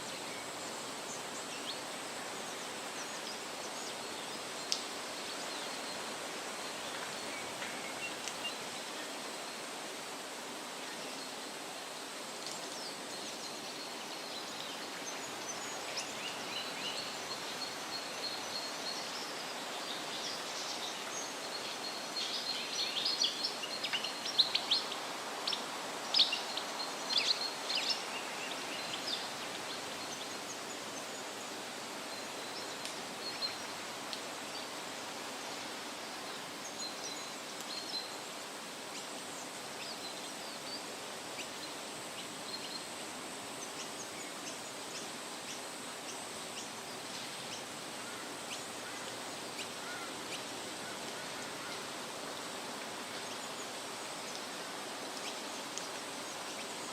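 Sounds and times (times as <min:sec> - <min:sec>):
wind rustling leaves: 0:00.0 - 0:56.9.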